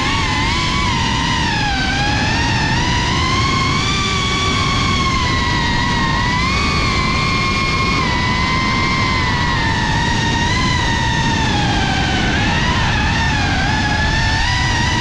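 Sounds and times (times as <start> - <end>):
drone propellers whining: 0.0 - 15.0
low rumble: 0.0 - 15.0.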